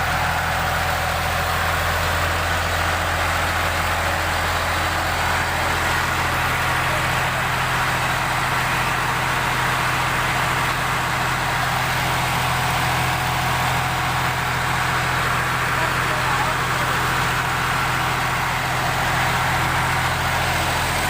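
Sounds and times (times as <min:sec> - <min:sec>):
tractor diesel engine idling: 0:00.0 - 0:21.0.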